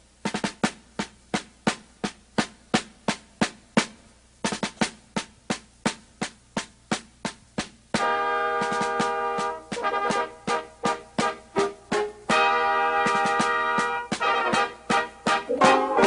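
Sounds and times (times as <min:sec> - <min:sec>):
snare drum march cadence: 0:00.0 - 0:16.0.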